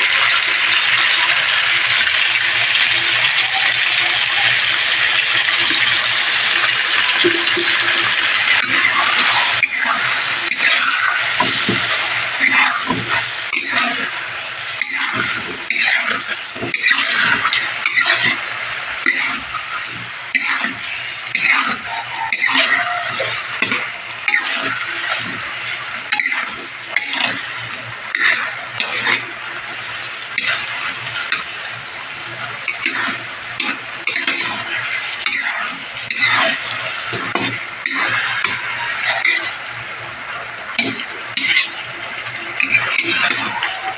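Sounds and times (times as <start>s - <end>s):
food sizzling in a metal pan: 0.0s - 43.9s
utensil scraping a pan: 3.4s - 43.9s.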